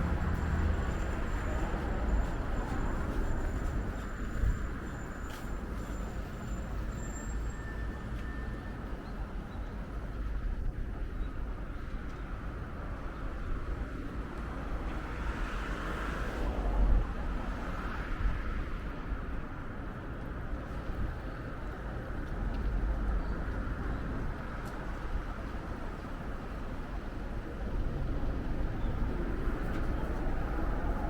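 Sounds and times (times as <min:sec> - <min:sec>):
rumble of passing cars: 0:00.0 - 0:31.0.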